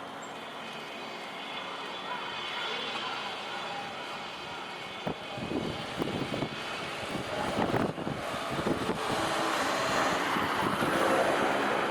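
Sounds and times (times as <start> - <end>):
electric train rumbling past: 0.0 - 11.9.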